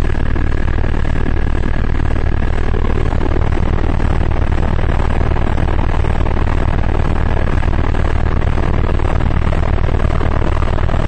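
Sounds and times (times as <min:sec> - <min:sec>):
helicopter rotor and turbine: 0:00.0 - 0:11.0.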